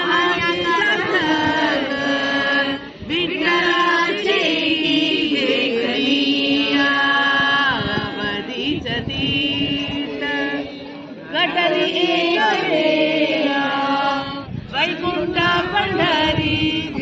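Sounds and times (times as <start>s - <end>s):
voices singing devotional chant: 0.0s - 17.0s.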